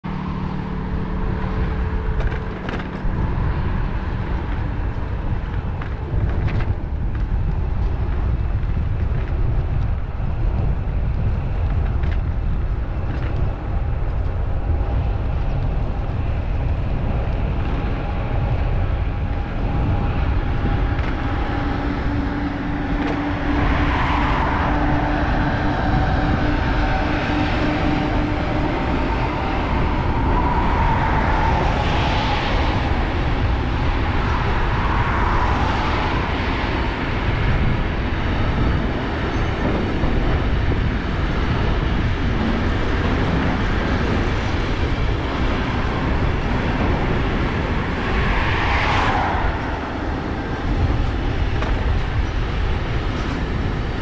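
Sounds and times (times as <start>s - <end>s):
road traffic passing: 0.0s - 54.0s
train humming: 0.0s - 54.0s
wind rumbling on microphone: 0.0s - 54.0s.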